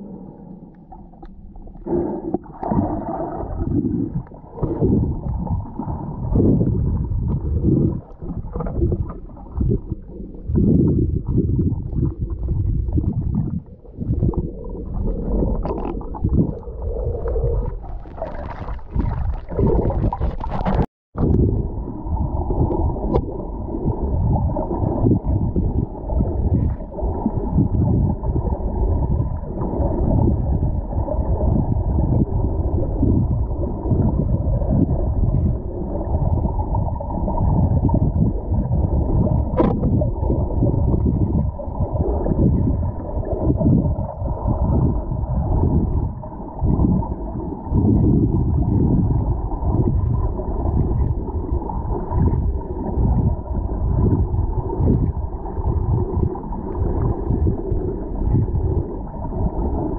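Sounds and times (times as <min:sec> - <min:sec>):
underwater churning rumble: 0:00.0 - 0:59.9.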